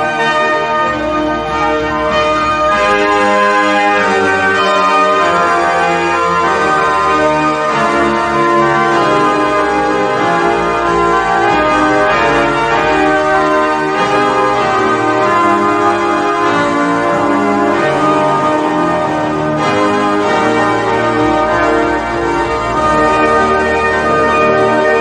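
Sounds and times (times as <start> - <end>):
organ playing slow chords: 0.0 - 25.0.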